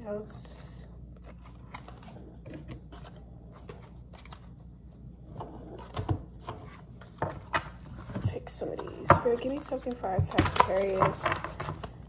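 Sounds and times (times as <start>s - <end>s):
cards shuffling: 1.1s - 4.7s, 5.6s - 12.0s.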